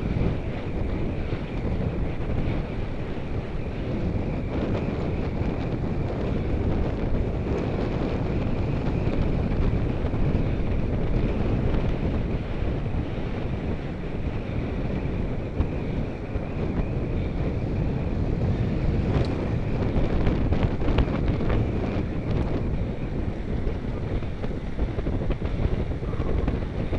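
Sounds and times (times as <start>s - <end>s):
faint steady whine: 0.0s - 26.9s
wind buffeting microphone: 0.0s - 26.9s.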